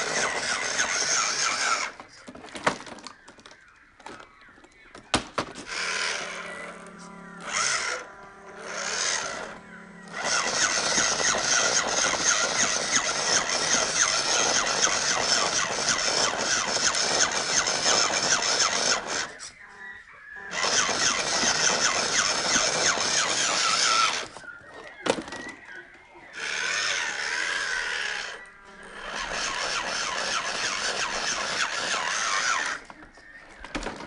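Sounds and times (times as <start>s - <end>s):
electric motor and gearbox whirring: 0.0s - 3.1s, 5.6s - 19.5s, 20.4s - 25.6s, 26.3s - 34.0s.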